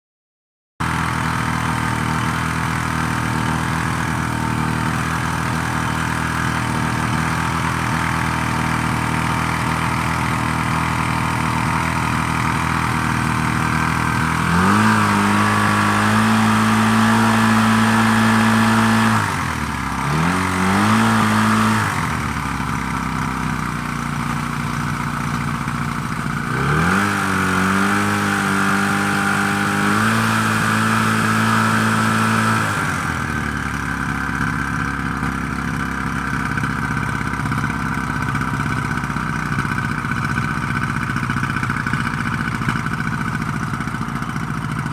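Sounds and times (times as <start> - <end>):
pump engine running: 0.8 - 44.9.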